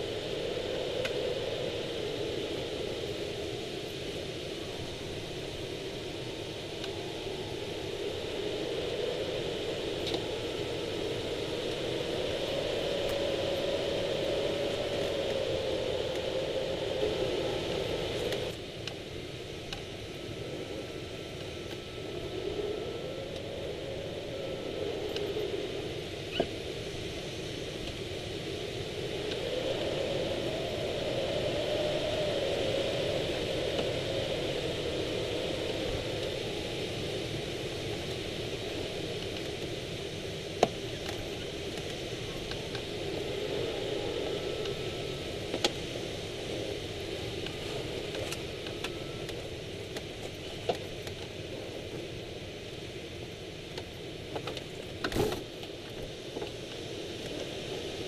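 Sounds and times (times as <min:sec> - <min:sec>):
wind rushing past glider: 0:00.0 - 0:58.0.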